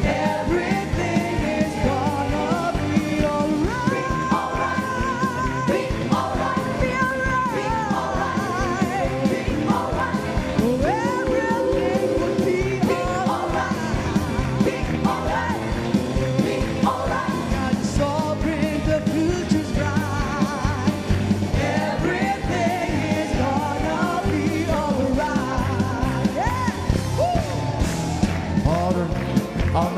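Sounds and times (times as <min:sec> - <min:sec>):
band playing steady beat: 0:00.0 - 0:29.9.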